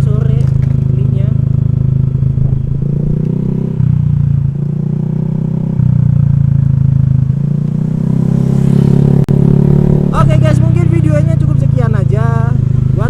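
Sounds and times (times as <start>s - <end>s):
scooter engine revving: 0.0s - 13.0s.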